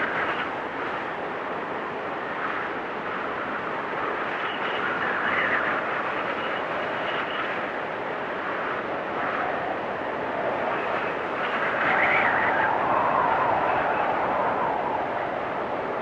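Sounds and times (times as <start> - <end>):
wind storm whistling: 0.0 - 16.0.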